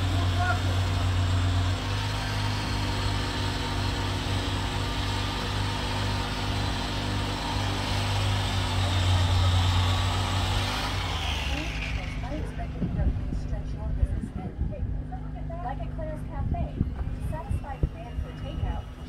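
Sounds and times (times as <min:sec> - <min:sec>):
motor running: 0:00.0 - 0:14.5, 0:15.3 - 0:19.0.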